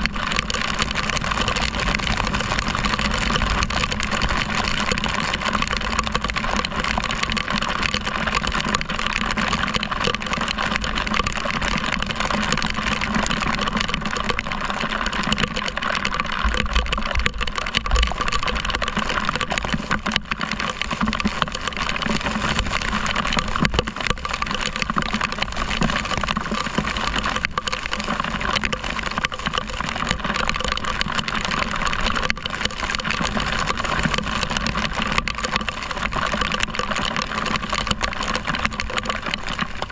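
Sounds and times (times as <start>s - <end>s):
wind and heavy rain: 0.0s - 39.9s.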